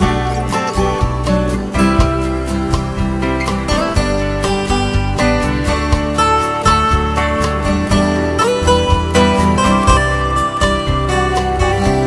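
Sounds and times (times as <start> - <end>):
acoustic guitar instrumental music: 0.0 - 12.0.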